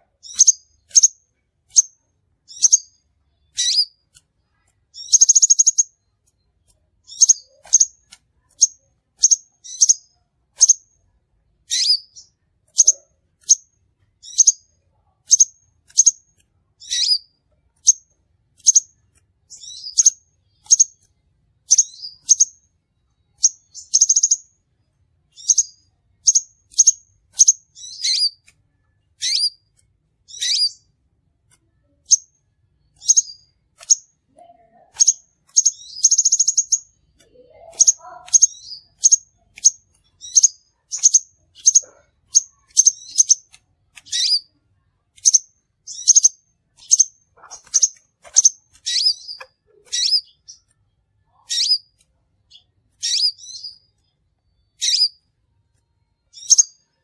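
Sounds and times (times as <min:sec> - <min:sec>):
bird chirping: 0:00.0 - 0:31.0, 0:31.6 - 0:57.0
buzzy bird trill: 0:00.2 - 0:06.2, 0:07.0 - 0:10.9, 0:11.7 - 0:16.2, 0:16.8 - 0:22.7, 0:23.3 - 0:24.5, 0:25.3 - 0:28.5, 0:29.1 - 0:30.9, 0:31.8 - 0:44.6, 0:45.2 - 0:50.7, 0:51.3 - 0:55.2, 0:56.3 - 0:56.9.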